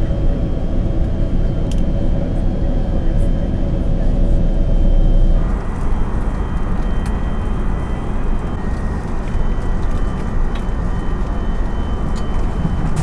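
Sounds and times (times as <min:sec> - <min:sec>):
faint steady whine: 0:00.0 - 0:13.0
jet airliner cabin noise: 0:00.0 - 0:13.0.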